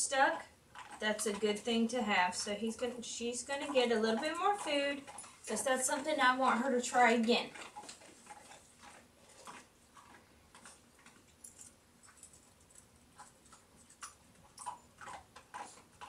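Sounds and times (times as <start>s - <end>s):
dog chewing dry food: 0.0s - 16.0s.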